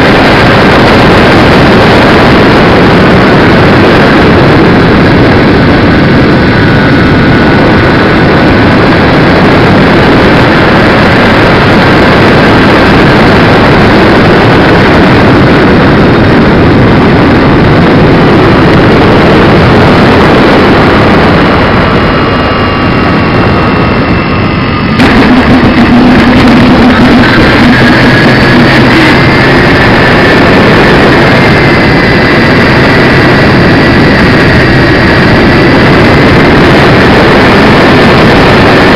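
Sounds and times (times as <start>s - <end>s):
model airplane engines running: 0.0s - 38.9s
whining propeller tones: 0.0s - 38.9s.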